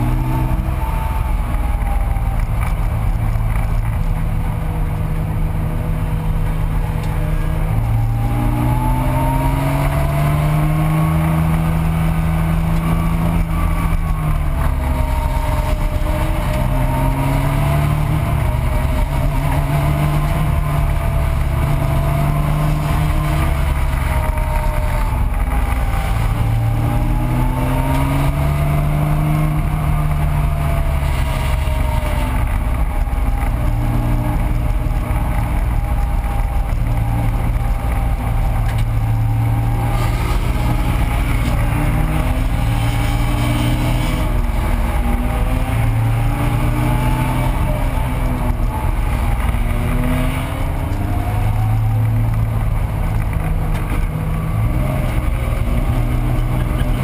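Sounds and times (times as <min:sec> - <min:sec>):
car engine at racing speed: 0:00.0 - 0:57.0
road and wind noise: 0:00.0 - 0:57.0.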